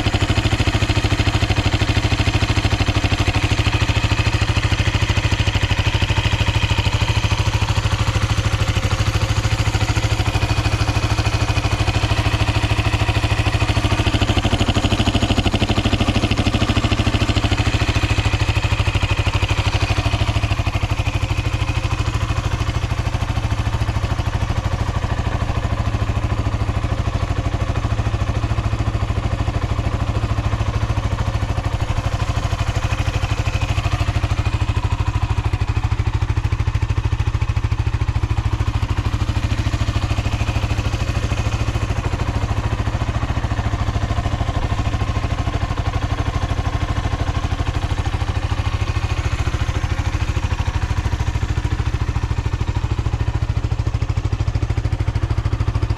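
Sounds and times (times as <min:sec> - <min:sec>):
motorcycle engine idling: 0:00.0 - 0:55.9.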